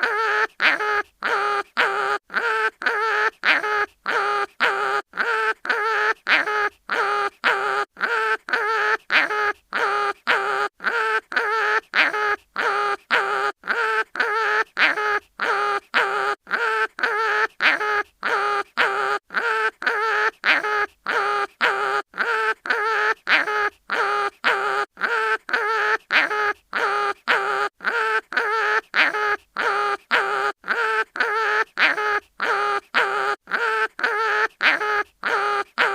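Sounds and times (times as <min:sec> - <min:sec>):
cartoon animal wailing in pain: 0:00.0 - 0:35.9.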